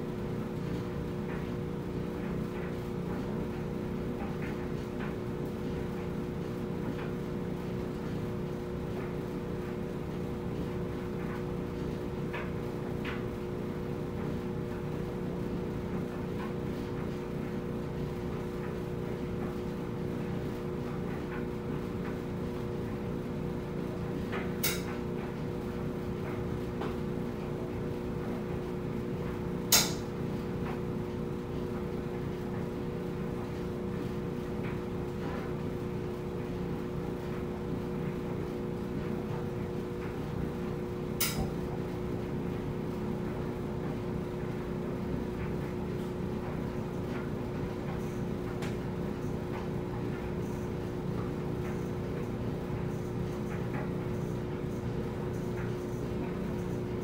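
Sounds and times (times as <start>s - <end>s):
clothes dryer running: 0.0s - 57.0s.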